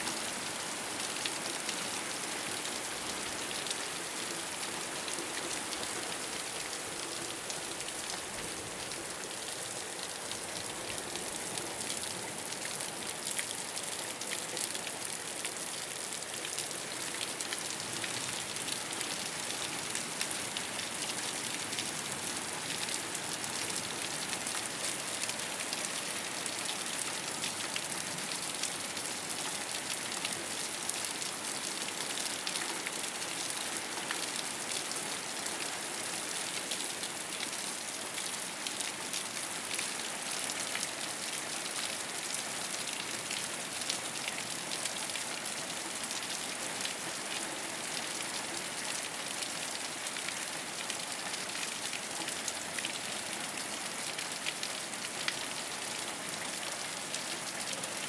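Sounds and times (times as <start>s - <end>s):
rain on a rooftop: 0.0s - 58.0s.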